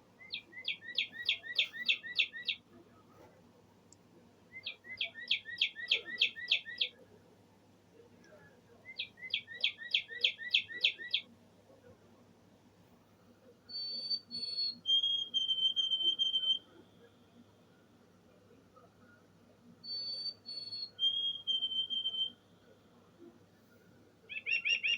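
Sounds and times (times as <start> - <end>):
recorded bird song from speaker: 0.0 - 3.5, 4.2 - 12.2, 13.4 - 24.9.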